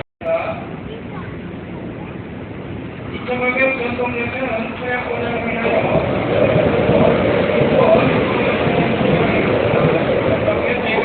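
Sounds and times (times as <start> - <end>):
metro train rumbling: 0.2 - 11.0.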